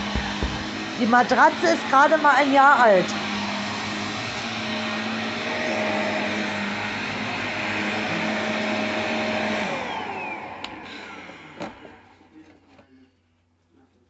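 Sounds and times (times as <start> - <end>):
handheld vacuum motor whine: 0.0 - 12.3.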